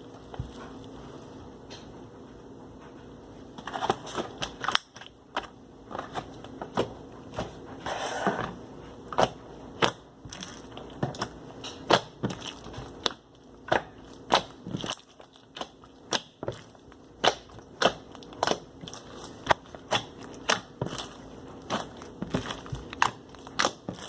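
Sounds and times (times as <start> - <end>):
slime squelching: 0.0 - 1.5, 3.7 - 24.0.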